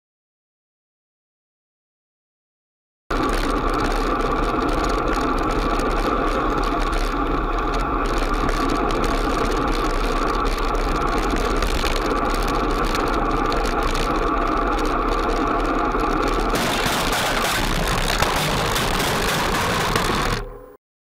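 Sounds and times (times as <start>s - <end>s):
road traffic: 3.1s - 20.6s.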